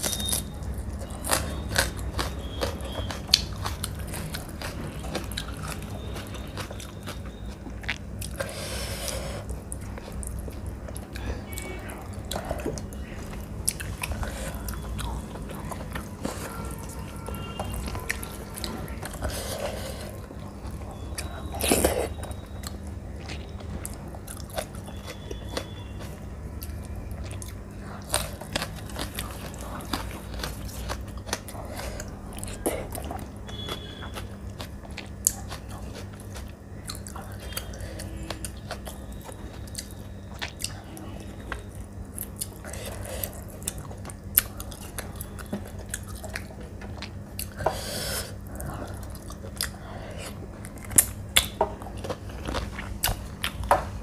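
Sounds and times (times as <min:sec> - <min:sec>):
person chewing and biting food: 0:00.0 - 0:54.0
steady low hum: 0:00.0 - 0:54.0.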